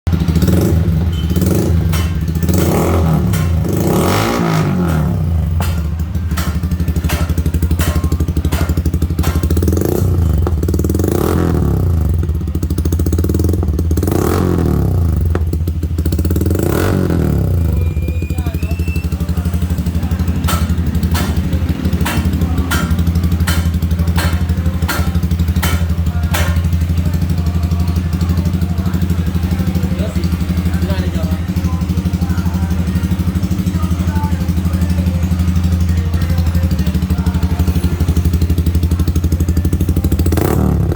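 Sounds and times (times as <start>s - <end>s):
motorcycle engine revving: 0.0s - 40.9s
exhaust cracks: 0.1s - 40.9s.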